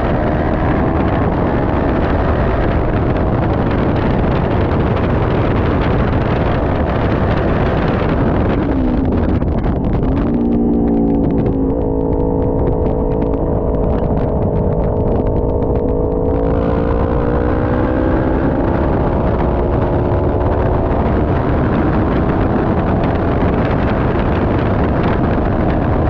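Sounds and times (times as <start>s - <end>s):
motorcycle engine accelerating: 0.0s - 26.0s
wind rush: 0.0s - 26.0s.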